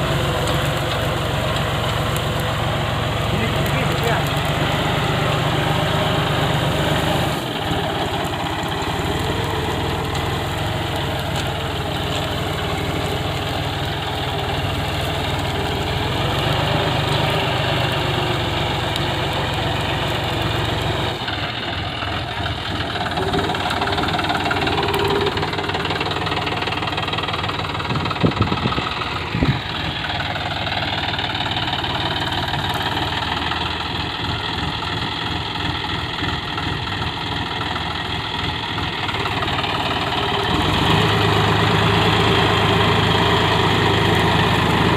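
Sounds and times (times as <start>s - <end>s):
ploughing machine engine running: 0.0s - 44.9s.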